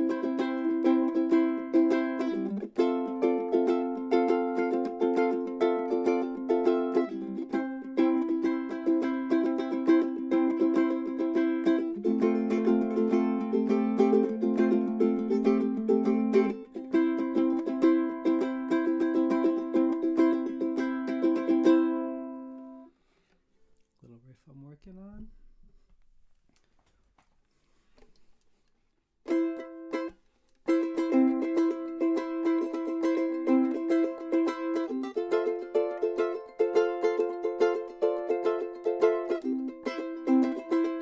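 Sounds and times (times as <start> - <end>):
ukulele strumming: 0.0 - 22.9, 29.2 - 41.0.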